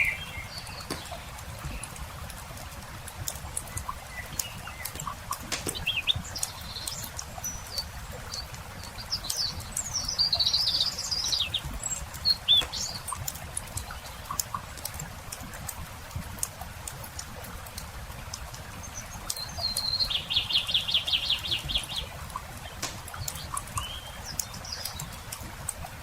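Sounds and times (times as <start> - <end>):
campfire crackling: 0.0 - 26.0
songbirds chirping: 0.0 - 26.0.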